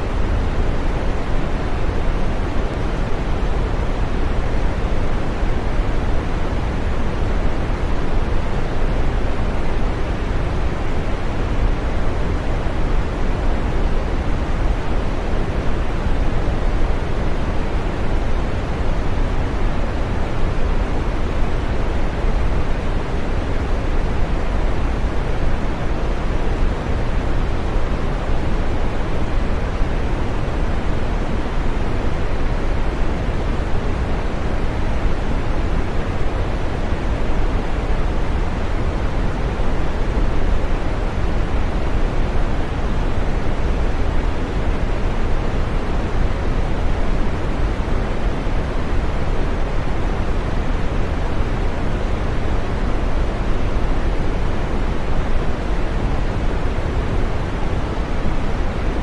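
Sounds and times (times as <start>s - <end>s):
steady synthetic green noise: 0.0s - 59.0s.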